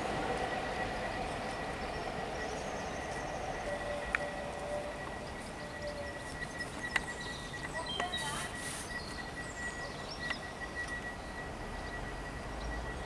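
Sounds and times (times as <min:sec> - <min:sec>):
thin steady high tone: 0:00.0 - 0:13.0
birds chirping and calling: 0:00.8 - 0:13.0.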